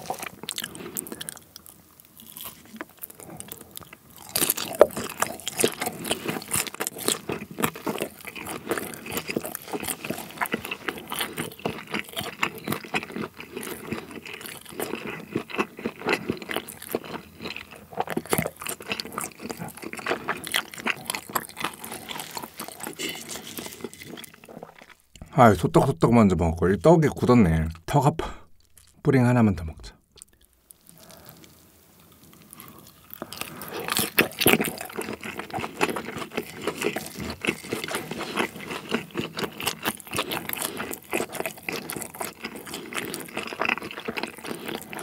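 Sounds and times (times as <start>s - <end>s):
close chewing clicks and smacks: 0.0s - 25.2s, 33.2s - 45.0s.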